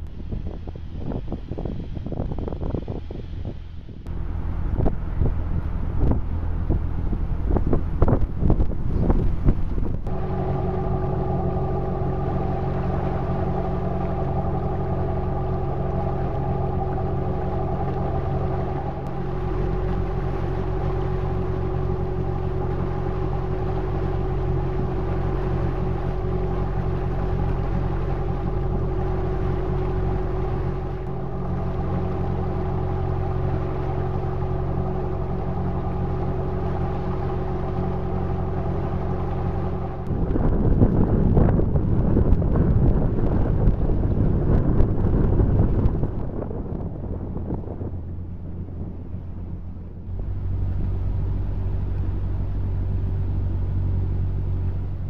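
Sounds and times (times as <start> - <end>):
motorboat engine drone: 0.0 - 55.0
wind buffeting microphone: 0.0 - 55.0.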